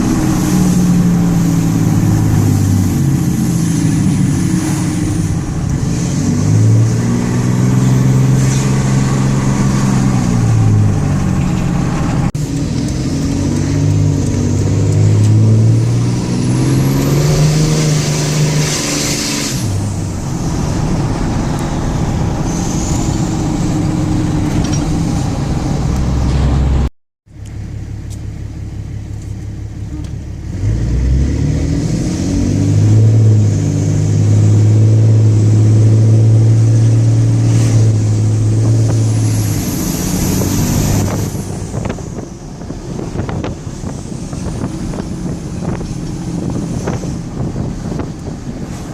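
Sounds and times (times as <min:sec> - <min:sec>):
diesel engine revving: 0:00.0 - 0:26.9, 0:29.6 - 0:48.9.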